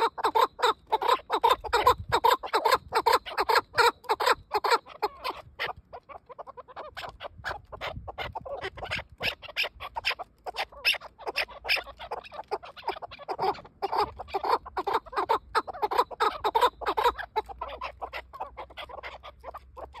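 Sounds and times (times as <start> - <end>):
partridges calling: 0.0 - 20.0.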